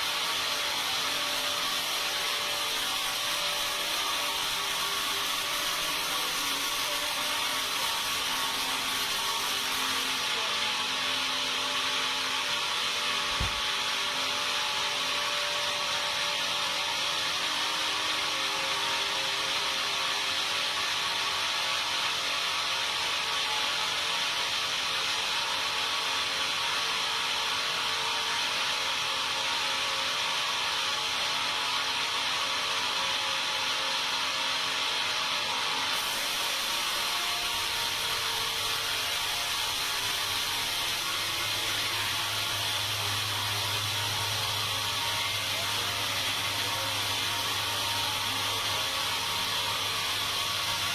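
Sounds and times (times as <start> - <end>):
sawmill saw running: 0.0 - 50.9.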